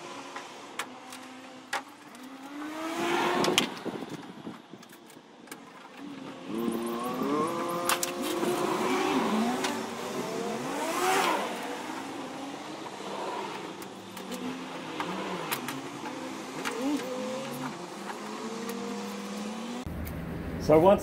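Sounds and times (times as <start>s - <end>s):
vehicle engine revving: 0.0s - 4.8s, 6.0s - 20.6s.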